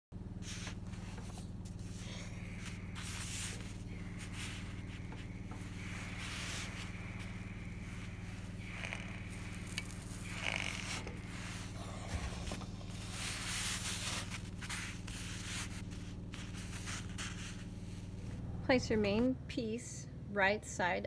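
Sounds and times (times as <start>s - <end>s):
steady low hum: 0.1s - 21.0s
iron sliding on fabric: 0.4s - 17.8s.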